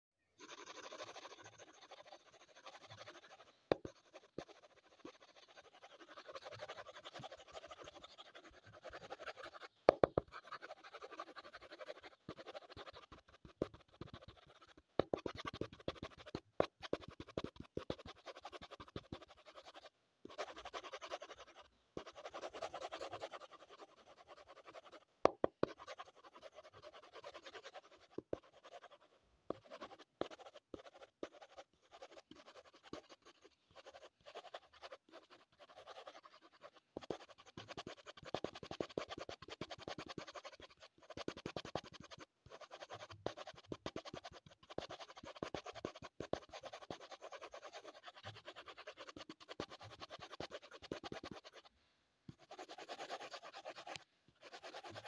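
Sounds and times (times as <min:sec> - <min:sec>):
pencil scratching on paper: 0:00.4 - 0:51.7, 0:52.3 - 0:55.0.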